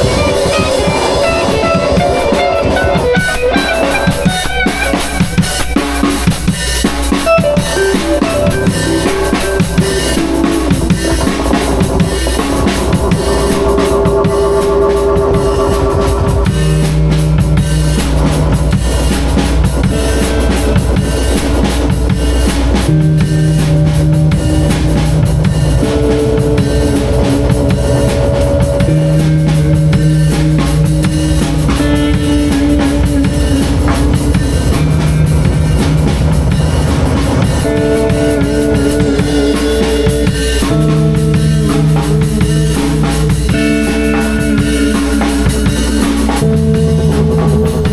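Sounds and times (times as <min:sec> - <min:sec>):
sustained instrument notes: 0:00.0 - 0:06.4, 0:07.1 - 0:47.9
drum kit playing busily: 0:00.0 - 0:47.9.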